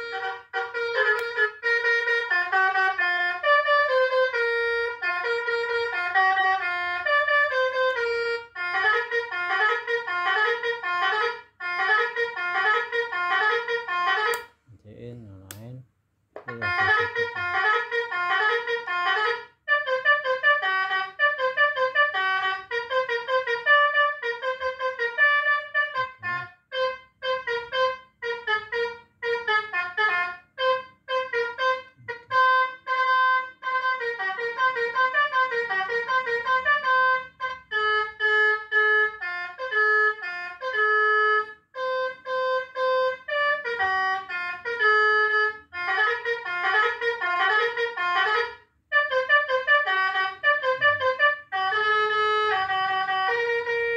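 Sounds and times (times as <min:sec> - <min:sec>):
electronic bus horn melody: 0:00.0 - 0:15.1, 0:16.4 - 0:53.9.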